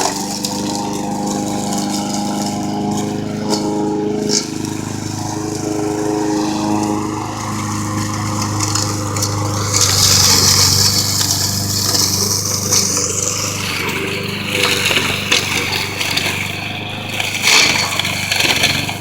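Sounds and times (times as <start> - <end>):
lawn mower engine cutting grass: 0.0 - 19.0.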